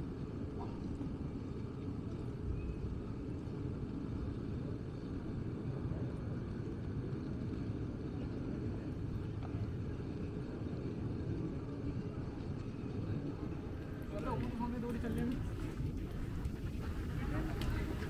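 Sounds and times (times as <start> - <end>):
street low rumble: 0.0 - 18.0.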